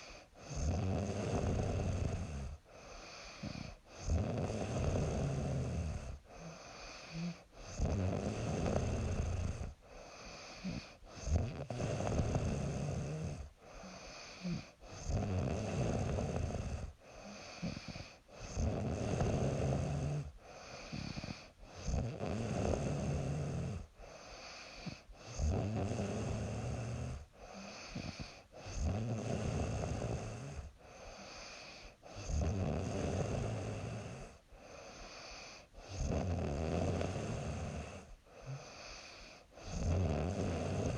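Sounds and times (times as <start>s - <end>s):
woman snoring: 0.0s - 40.9s.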